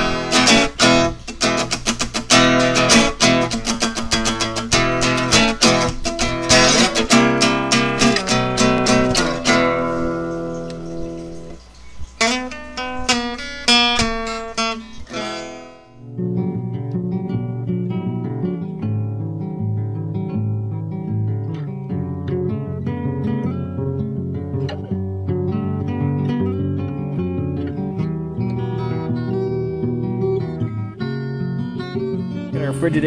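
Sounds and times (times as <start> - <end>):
acoustic guitar picking and strumming: 0.0 - 33.0.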